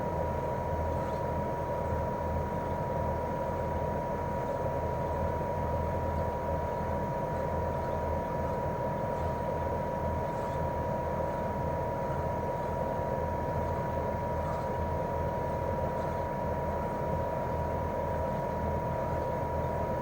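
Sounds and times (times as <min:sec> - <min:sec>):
compressor humming low: 0:00.0 - 0:20.0.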